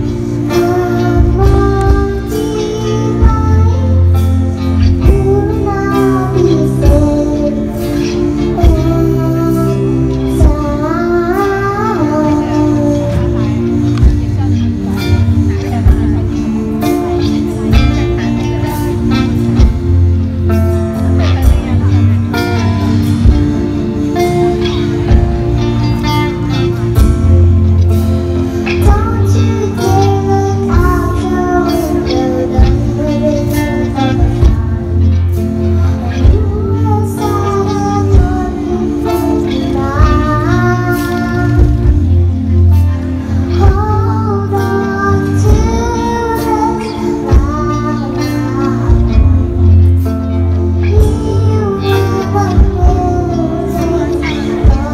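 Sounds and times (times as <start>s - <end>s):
girl singing into a microphone: 0.0s - 19.8s, 20.5s - 54.9s
drums: 0.0s - 54.9s
electric bass: 0.0s - 54.9s
keyboard: 0.0s - 54.9s
live band playing slow song: 0.0s - 54.9s.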